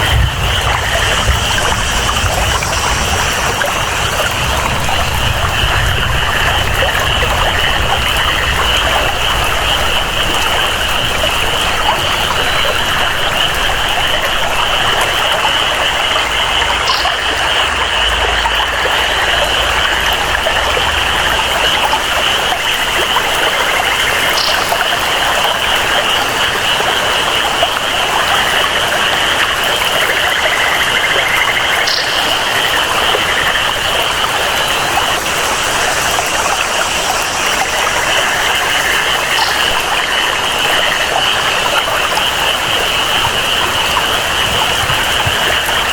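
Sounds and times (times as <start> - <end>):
flowing water: 0.0 - 45.9
frogs and insects chorus: 0.0 - 45.9
steady rain: 0.0 - 45.9.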